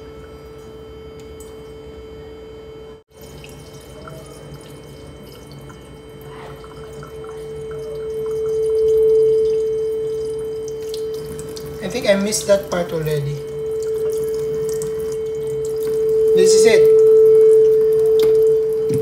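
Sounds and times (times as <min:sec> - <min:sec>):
pure tone: 0:00.0 - 0:19.0.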